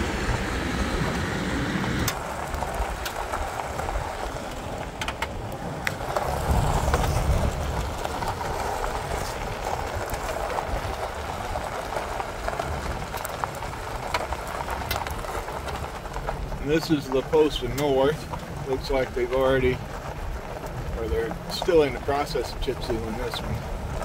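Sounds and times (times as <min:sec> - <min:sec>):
tyres rumbling on road: 0:00.0 - 0:24.0.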